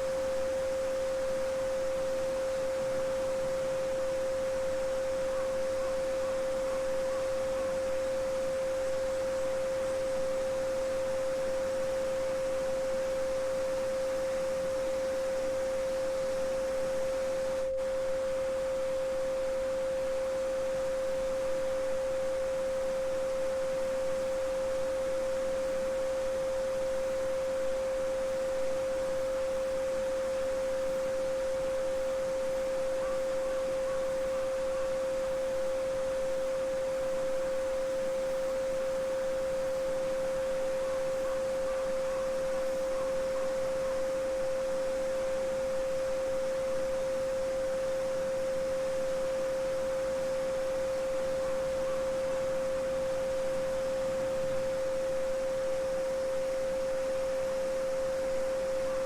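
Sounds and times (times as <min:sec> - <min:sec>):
steady sine tone: 0:00.0 - 0:59.0.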